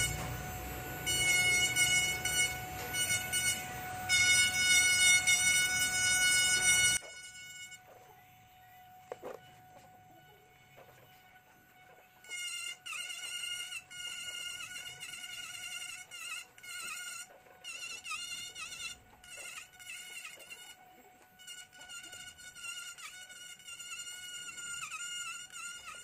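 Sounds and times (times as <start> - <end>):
rotary carving tool whining: 0.0 - 26.0.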